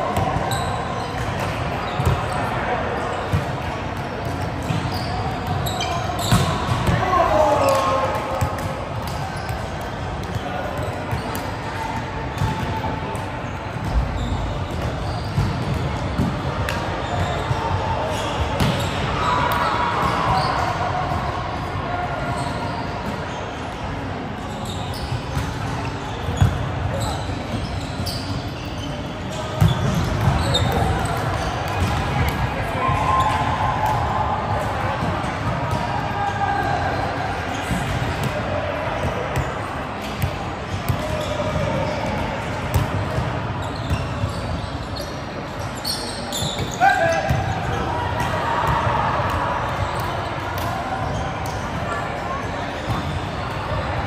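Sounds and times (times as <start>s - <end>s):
volleyballs hit and bouncing: 0.0s - 22.4s, 25.1s - 36.2s, 37.0s - 44.6s, 46.1s - 54.0s.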